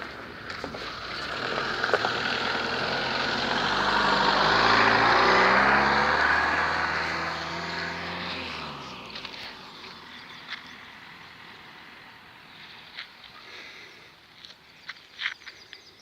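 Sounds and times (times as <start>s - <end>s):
vehicle passing by: 0.7s - 14.1s.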